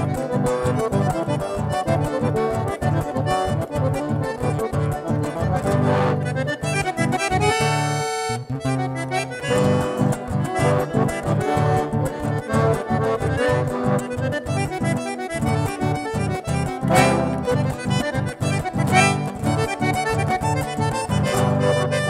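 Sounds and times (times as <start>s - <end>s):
acoustic guitar accompaniment: 0.0s - 22.0s
button accordion playing: 0.0s - 22.0s.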